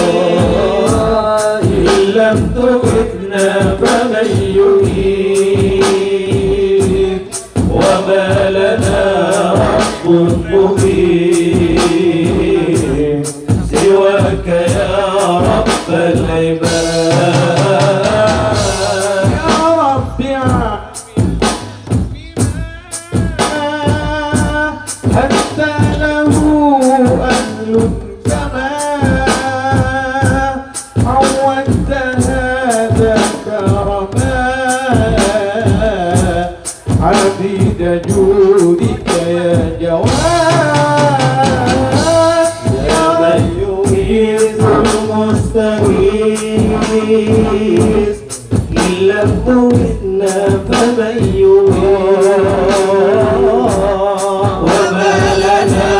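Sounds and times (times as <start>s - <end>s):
men singing devotional song: 0.0s - 55.9s
steady percussion beat: 0.0s - 55.9s.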